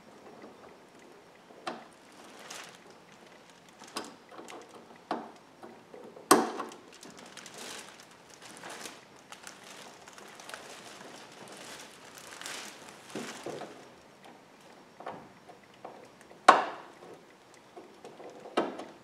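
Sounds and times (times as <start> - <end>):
soft handling rustle: 0.0 - 5.1, 6.0 - 16.3.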